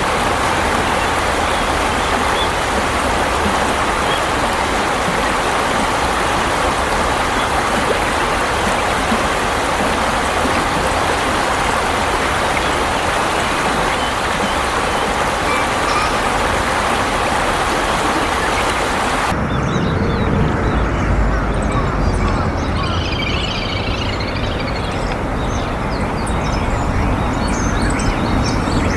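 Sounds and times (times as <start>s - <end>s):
flowing water rushing: 0.0s - 28.9s.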